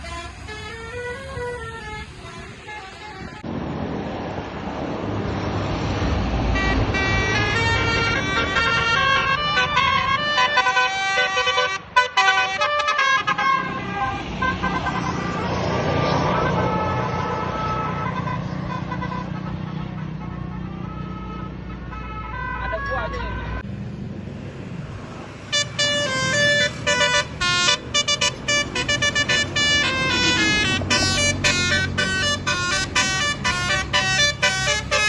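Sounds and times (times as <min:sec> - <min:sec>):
bus horn playing a melody: 0:00.0 - 0:03.4, 0:06.5 - 0:23.6, 0:25.5 - 0:35.0
bus engine rumble: 0:00.0 - 0:35.0.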